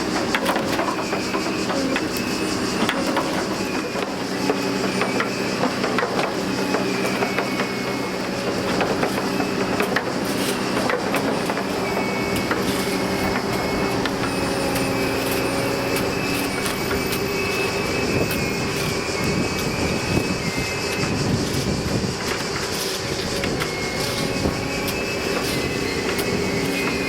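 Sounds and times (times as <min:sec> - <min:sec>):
diesel rail vehicle engine: 0:00.0 - 0:27.0
high steel squeal: 0:00.0 - 0:27.0.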